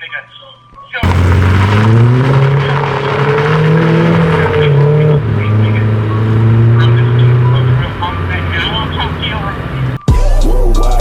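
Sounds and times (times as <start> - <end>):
car engine running hard: 1.0 - 10.1.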